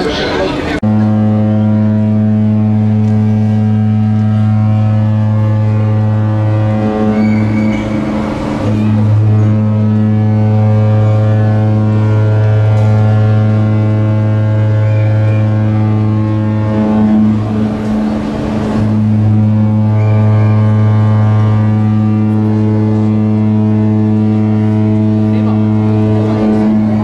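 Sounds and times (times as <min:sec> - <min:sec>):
rushing noise: 0:00.0 - 0:27.0
ship horn blast: 0:00.0 - 0:27.0.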